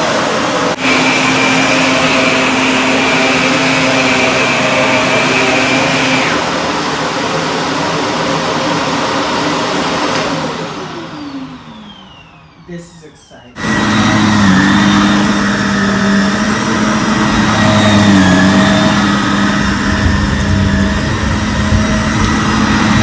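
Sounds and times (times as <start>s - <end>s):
high whine: 0.0s - 10.2s, 11.1s - 23.0s
vacuum cleaner motor running: 0.0s - 23.0s.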